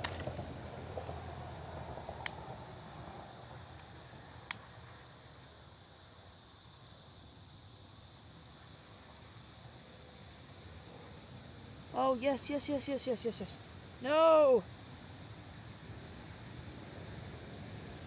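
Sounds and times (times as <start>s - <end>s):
crickets chirring: 0.0s - 18.0s.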